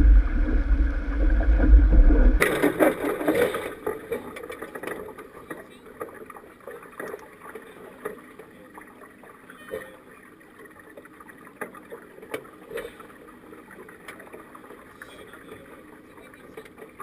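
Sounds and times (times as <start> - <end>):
water rushing along a hull: 0.0 - 17.0.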